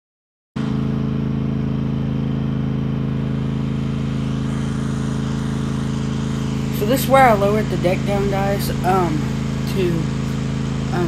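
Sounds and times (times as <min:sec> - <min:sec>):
lawn tractor engine running: 0:00.6 - 0:11.0.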